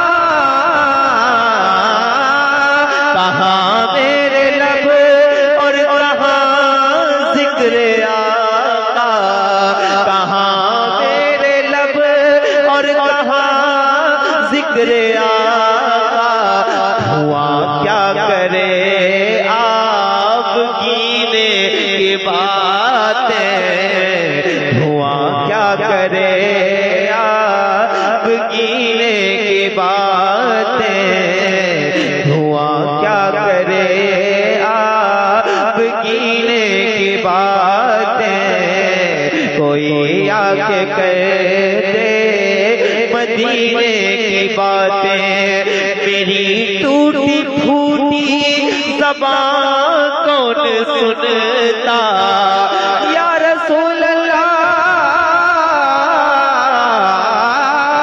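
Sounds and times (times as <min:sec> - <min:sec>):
person singing melismatic vocal: 0:00.0 - 0:58.0.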